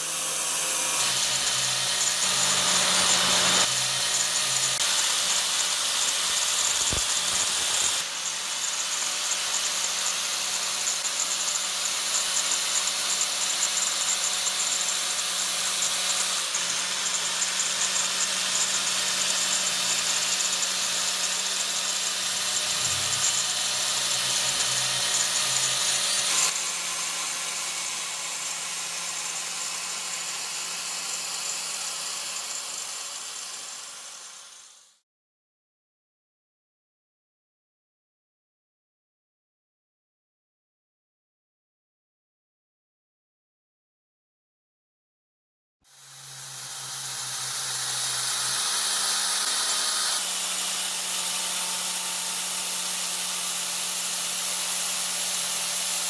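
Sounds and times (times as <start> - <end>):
power tool grinding metal: 0.0 - 35.0, 45.9 - 56.0.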